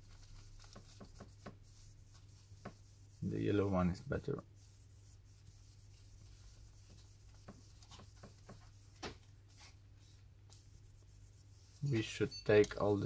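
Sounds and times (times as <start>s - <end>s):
cloth rubbing on screen: 0.0s - 12.2s.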